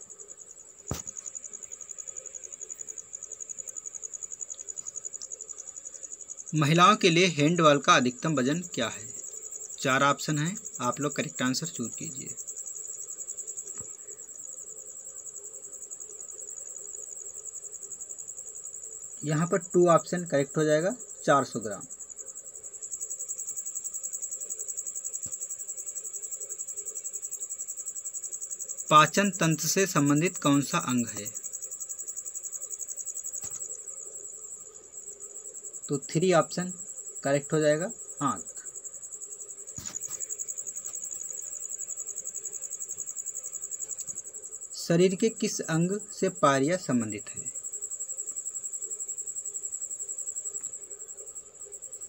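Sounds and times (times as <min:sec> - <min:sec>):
crickets chirping: 0:00.0 - 0:52.0
high-pitched insect trill: 0:00.0 - 0:52.0.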